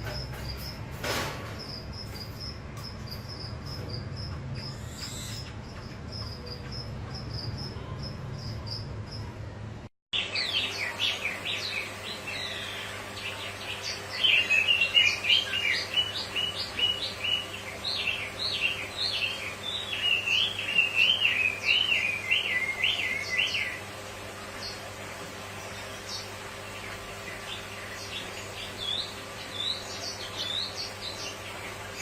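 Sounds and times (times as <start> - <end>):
songbird chirps and trills: 0.0 - 32.0.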